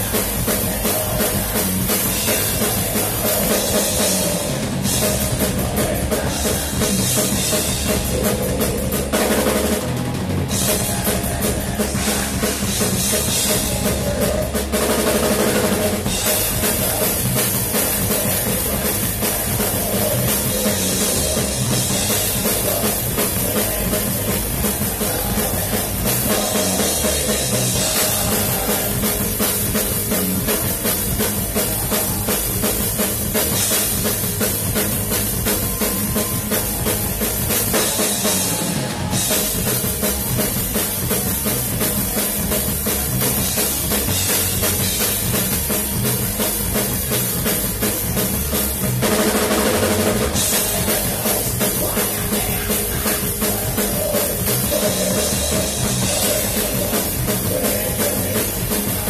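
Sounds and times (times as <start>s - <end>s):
drum kit bass drum snare cymbals: 0.0s - 59.0s
heavy metal band playing live: 0.0s - 59.0s.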